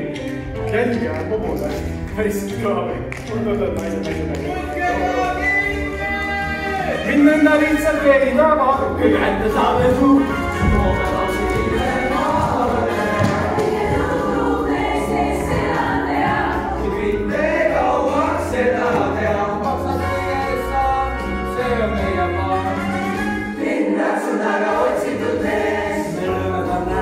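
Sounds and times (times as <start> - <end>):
instrumental accompaniment with bass: 0.0 - 23.8, 24.6 - 27.0
group of voices singing: 4.4 - 27.0.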